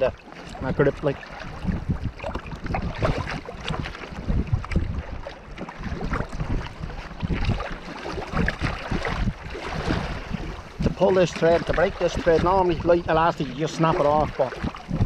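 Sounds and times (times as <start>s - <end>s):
sea water splashing: 0.0s - 15.0s
wind buffeting microphone: 0.0s - 15.0s.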